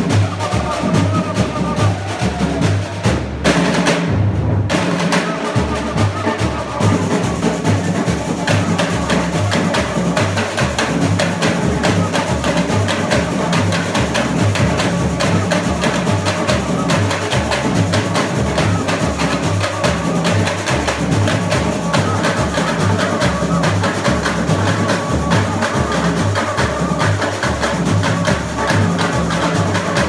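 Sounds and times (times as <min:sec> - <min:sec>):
fast hand drum strikes: 0:00.0 - 0:30.0
small high-pitched percussion: 0:04.7 - 0:30.0.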